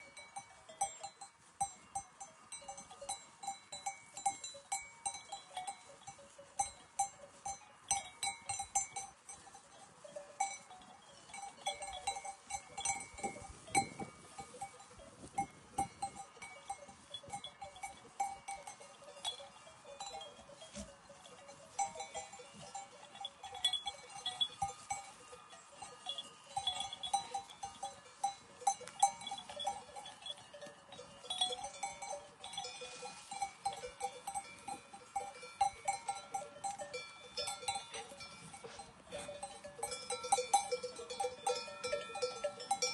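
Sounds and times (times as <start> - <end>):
sheep bells clinking: 0.0 - 42.9.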